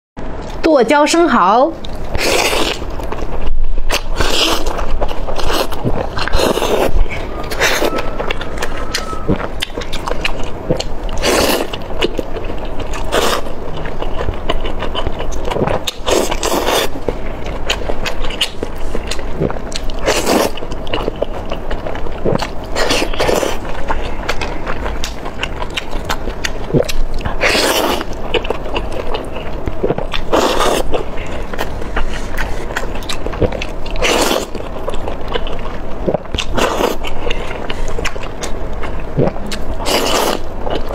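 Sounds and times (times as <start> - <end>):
wet chewing and slurping: 1.8 - 40.9.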